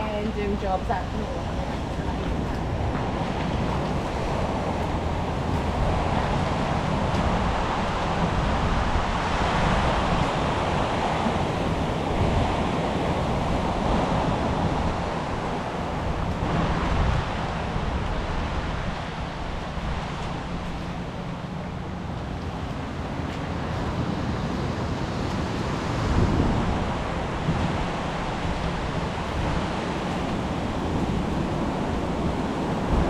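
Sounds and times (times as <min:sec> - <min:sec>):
sea surf washing onto beach: 0:00.0 - 0:33.0
wind rumbling on microphone: 0:00.0 - 0:33.0.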